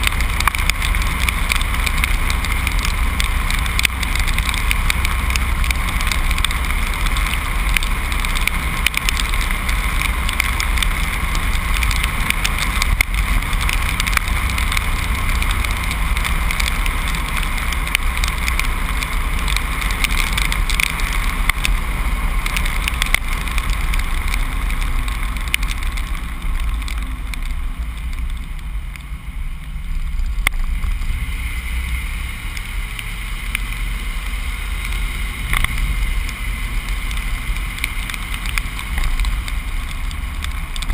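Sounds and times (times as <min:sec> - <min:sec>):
truck engine and tyres rumbling: 0:00.0 - 0:40.9.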